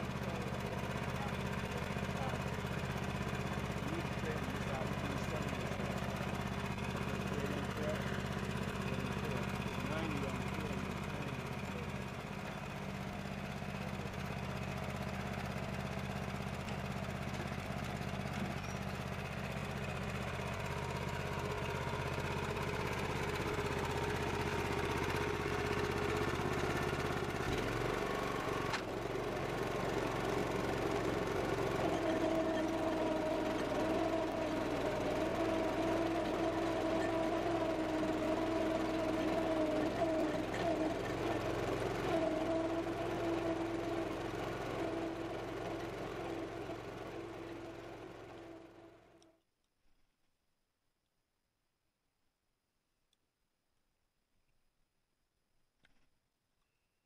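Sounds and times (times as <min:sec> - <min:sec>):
small gasoline engine running: 0:00.0 - 0:49.4.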